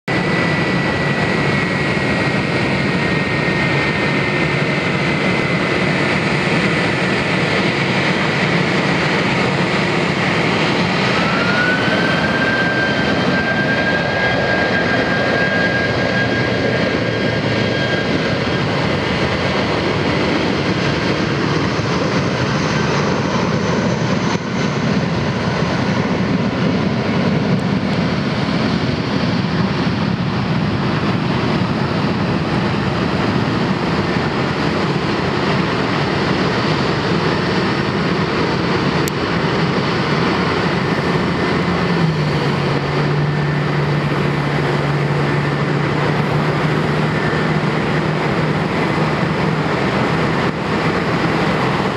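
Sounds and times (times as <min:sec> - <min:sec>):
jet engines roaring with whine: 0:00.0 - 0:51.9.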